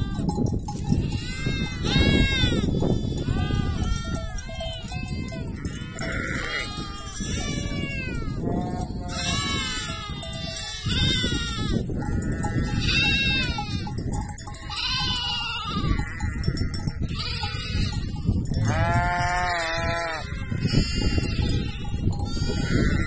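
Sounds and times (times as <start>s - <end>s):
sheep and lambs bleating: 0.0s - 23.0s.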